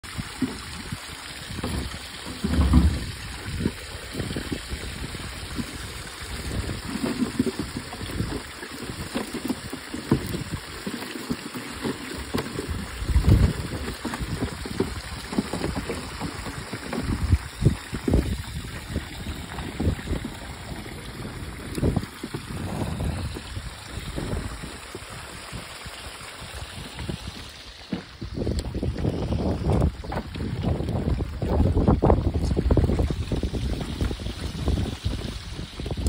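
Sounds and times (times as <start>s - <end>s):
water pouring and splashing: 0.0s - 36.0s.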